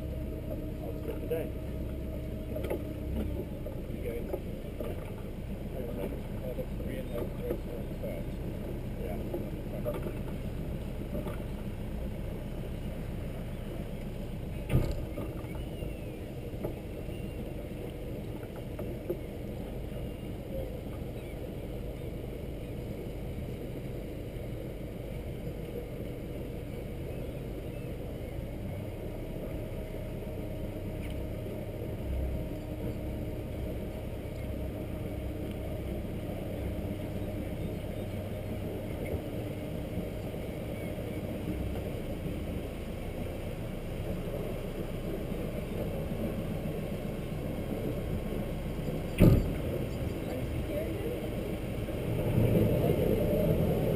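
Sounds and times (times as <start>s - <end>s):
boat diesel engine running: 0.0s - 53.9s.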